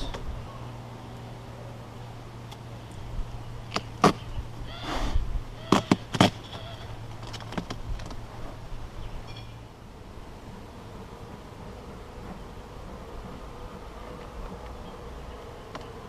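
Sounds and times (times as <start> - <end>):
rustle: 0.0 - 16.0.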